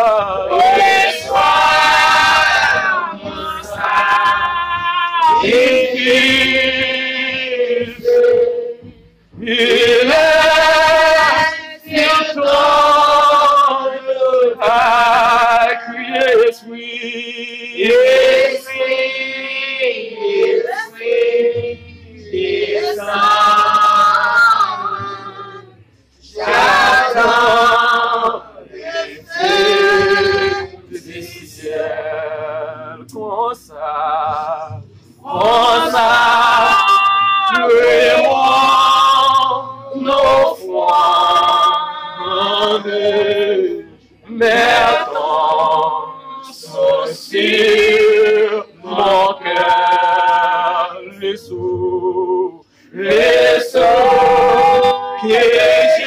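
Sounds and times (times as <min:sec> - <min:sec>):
group singing a worship song: 0:00.0 - 0:56.0.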